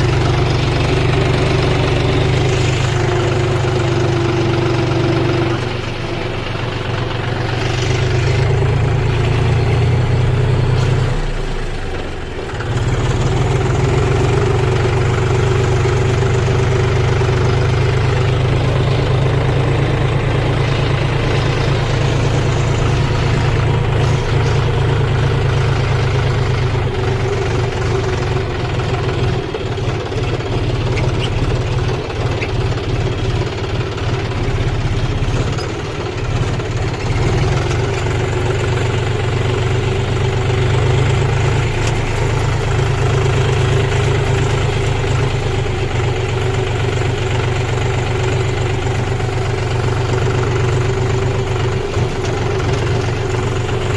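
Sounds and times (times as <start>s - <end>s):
combine harvester engine running: 0.0s - 53.9s.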